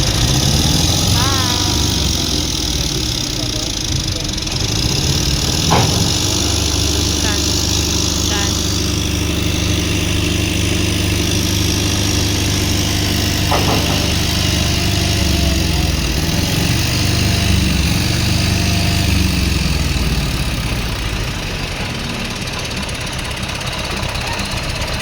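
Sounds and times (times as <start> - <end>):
large engine idling: 0.0 - 25.0.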